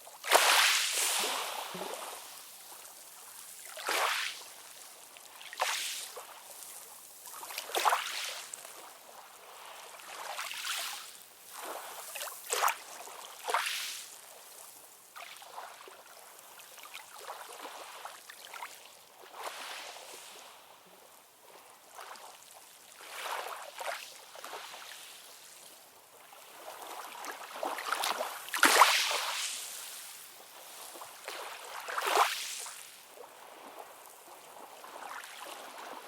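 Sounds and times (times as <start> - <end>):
ocean waves splashing and lapping: 0.2 - 14.4, 16.9 - 20.8, 23.0 - 36.0.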